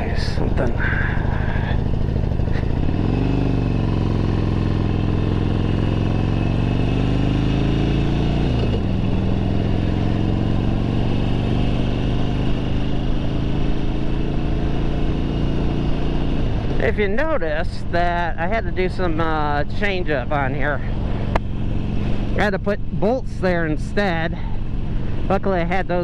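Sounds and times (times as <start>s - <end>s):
motorcycle accelerating: 0.0s - 26.0s.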